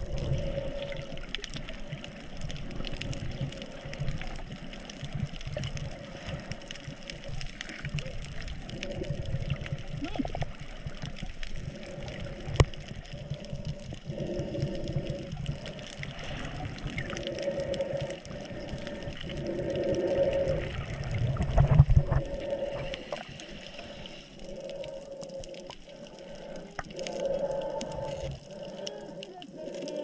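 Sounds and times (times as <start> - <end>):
muffled underwater sounds: 0.0 - 30.0.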